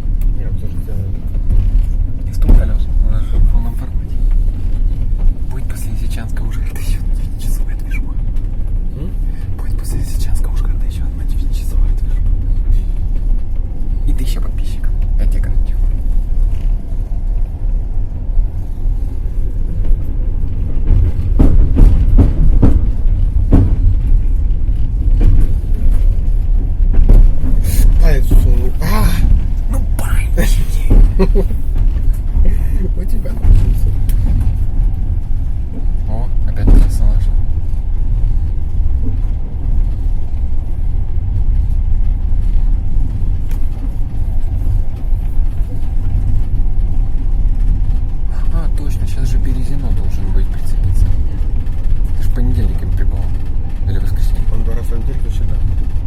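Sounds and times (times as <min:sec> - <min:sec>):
train carriage rumbling: 0:00.0 - 0:56.0
wheels clacking over rail joints: 0:00.0 - 0:56.0.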